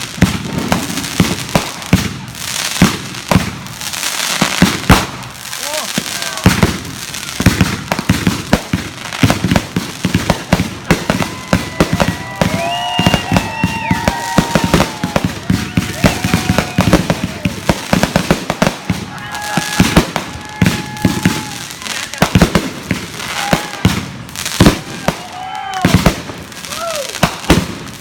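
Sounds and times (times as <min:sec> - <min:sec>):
fireworks cracking and banging: 0:00.0 - 0:28.0
fireworks whistling: 0:00.0 - 0:28.0.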